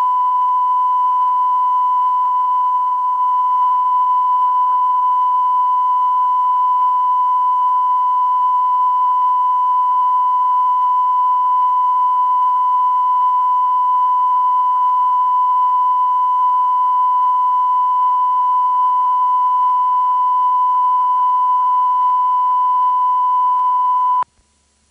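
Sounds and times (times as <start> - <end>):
continuous test tone beep: 0.0 - 24.3
tape hiss: 1.2 - 24.9.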